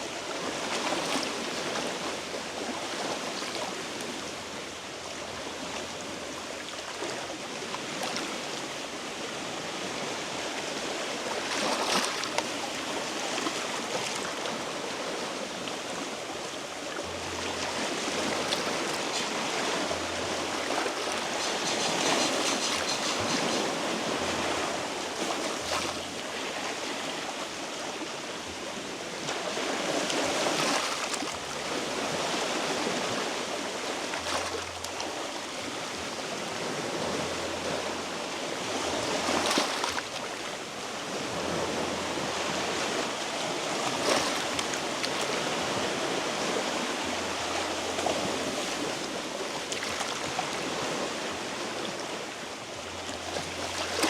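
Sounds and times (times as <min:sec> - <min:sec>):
sea waves washing over rocks: 0:00.0 - 0:54.0.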